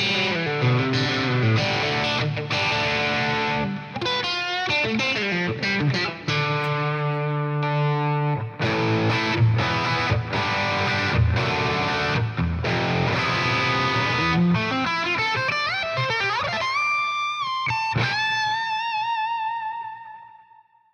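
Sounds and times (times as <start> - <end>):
distorted electric guitar riff: 0.0 - 20.6.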